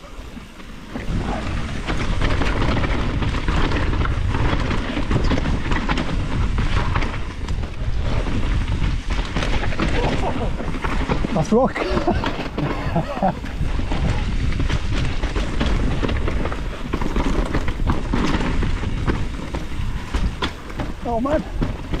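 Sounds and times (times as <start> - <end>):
wind and tyre rumble: 0.0 - 22.0
bike rattling clicks: 0.3 - 22.0.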